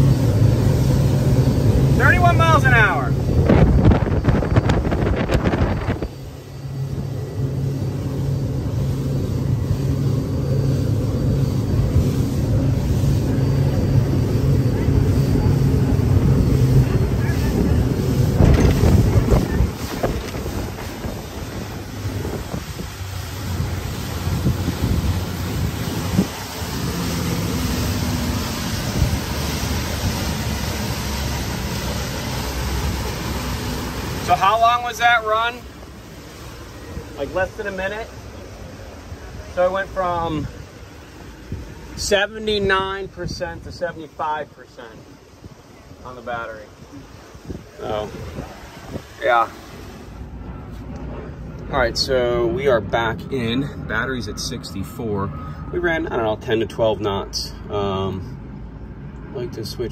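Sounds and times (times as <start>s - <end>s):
wind and water rushing past boat: 0.0s - 59.9s.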